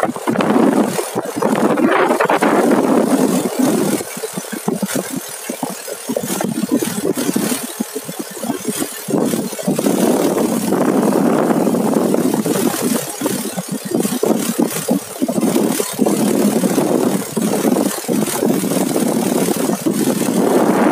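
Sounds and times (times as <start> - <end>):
motorcycle engine running: 0.0 - 20.9
rushing noise: 0.0 - 20.9.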